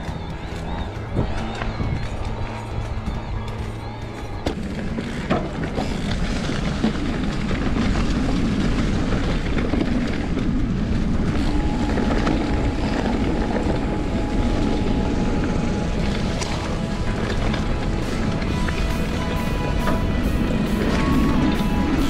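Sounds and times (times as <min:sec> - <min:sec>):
wind on microphone: 0:00.0 - 0:04.4, 0:05.5 - 0:22.0
bike ride rumble: 0:00.0 - 0:22.0.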